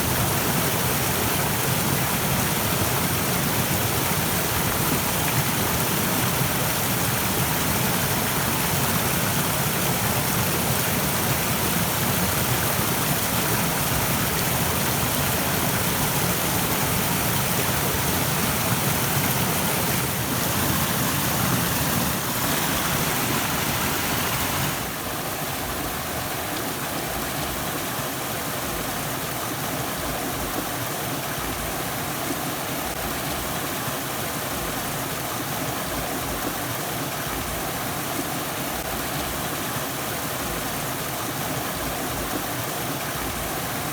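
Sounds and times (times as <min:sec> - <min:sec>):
rushing stream water: 0:00.0 - 0:43.9.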